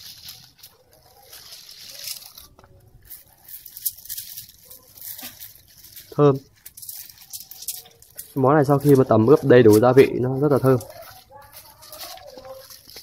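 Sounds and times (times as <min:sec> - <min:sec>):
glove and foil crinkling: 0:00.0 - 0:13.0.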